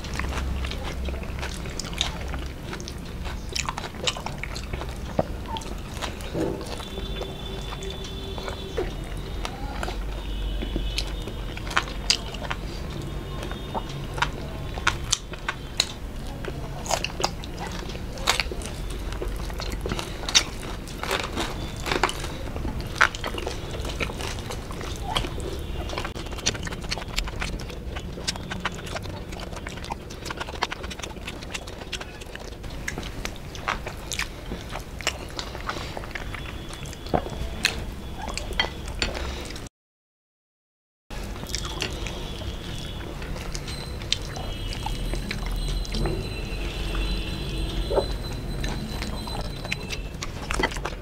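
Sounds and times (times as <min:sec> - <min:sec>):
fingers squelching food: 0:00.0 - 0:39.6, 0:41.3 - 0:51.0
lip smacks: 0:00.0 - 0:39.7, 0:41.3 - 0:51.0
wet chewing: 0:00.0 - 0:39.7, 0:41.1 - 0:51.0.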